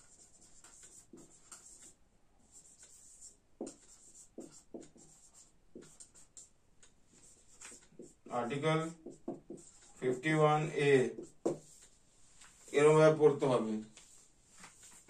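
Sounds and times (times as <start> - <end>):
marker writing on whiteboard: 0.0 - 15.0.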